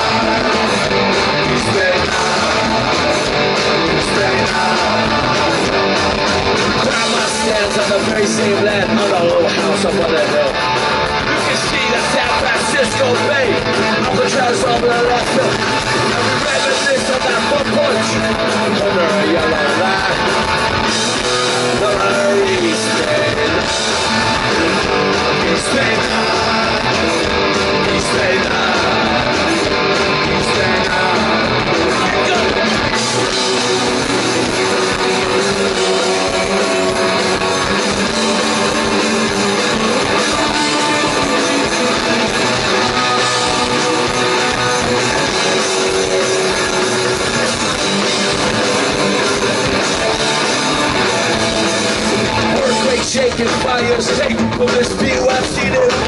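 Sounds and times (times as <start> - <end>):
punk rock band playing live: 0.0 - 56.0.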